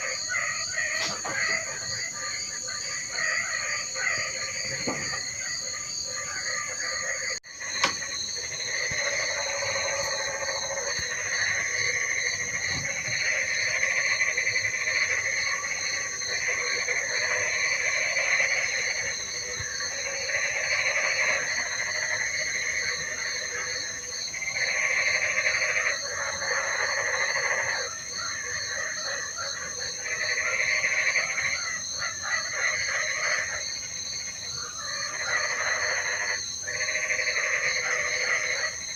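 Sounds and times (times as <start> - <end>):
fast-pulsing insect trill: 0.0 - 38.9
frogs calling: 0.0 - 38.9
high insect trill: 0.0 - 38.9.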